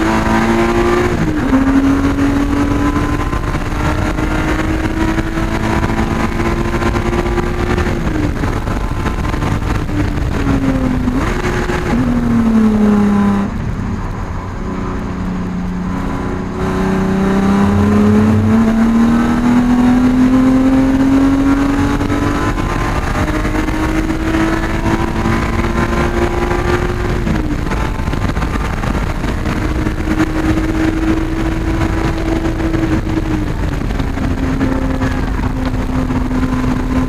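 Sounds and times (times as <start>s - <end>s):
race car engine revving: 0.0s - 37.0s
road and wind noise: 0.0s - 37.0s.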